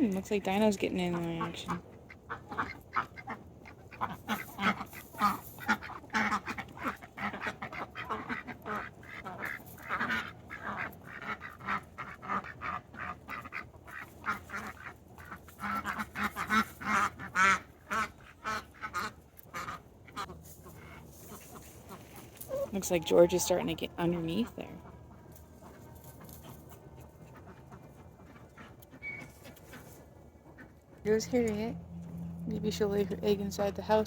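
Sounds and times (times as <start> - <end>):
ducks quacking: 0.5 - 31.2.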